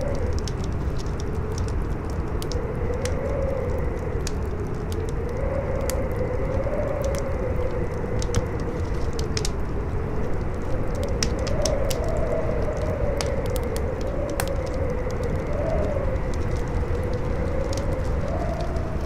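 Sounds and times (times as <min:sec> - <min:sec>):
campfire crackling and popping: 0:00.0 - 0:19.0
howling wind: 0:00.0 - 0:19.0.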